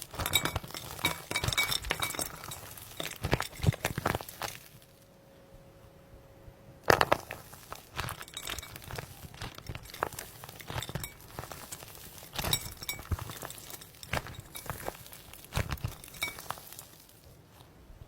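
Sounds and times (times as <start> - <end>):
crunchy slime crackling: 0.0 - 5.1, 6.8 - 17.7.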